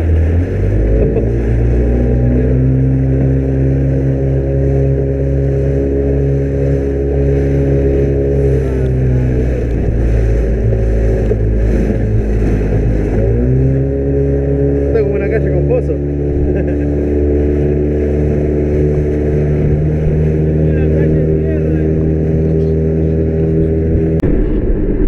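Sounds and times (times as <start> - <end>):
vehicle engine droning: 0.0 - 25.0.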